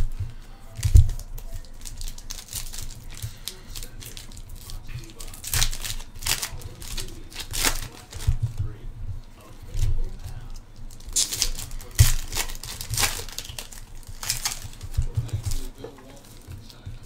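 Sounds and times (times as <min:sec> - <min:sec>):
foil wrappers crinkling and tearing: 0:00.0 - 0:17.0.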